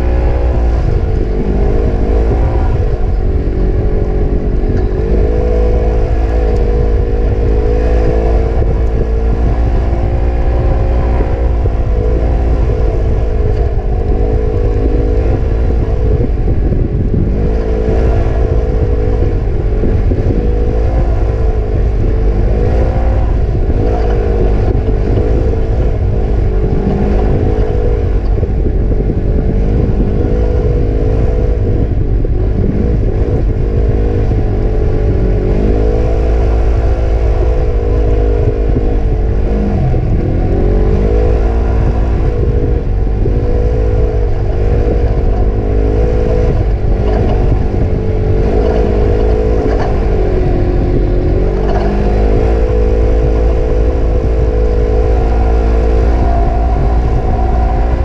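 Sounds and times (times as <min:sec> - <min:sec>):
utility vehicle engine revving: 0:00.0 - 0:58.0
wind buffeting microphone: 0:00.0 - 0:58.0.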